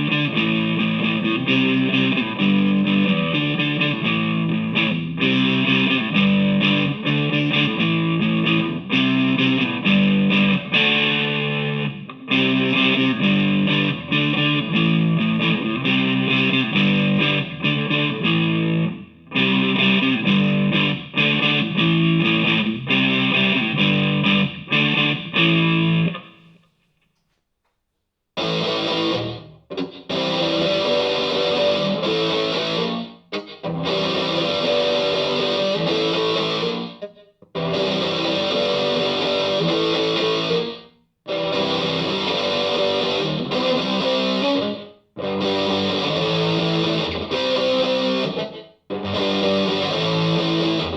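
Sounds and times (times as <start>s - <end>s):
distorted electric guitar: 0.0s - 26.8s, 28.4s - 50.9s.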